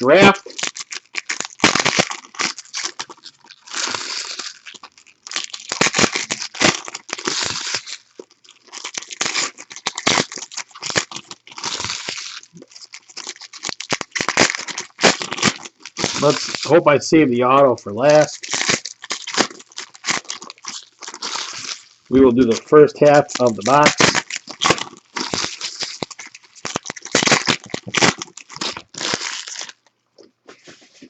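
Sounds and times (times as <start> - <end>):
foil wrappers tearing and crinkling: 0.0 - 29.9.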